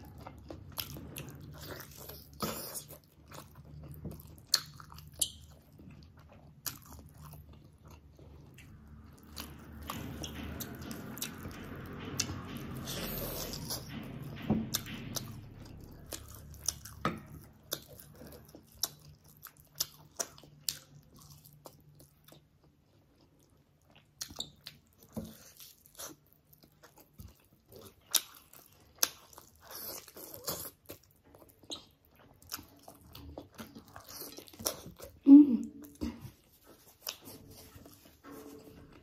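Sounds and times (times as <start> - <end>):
biting and chewing meat: 0.0 - 35.2.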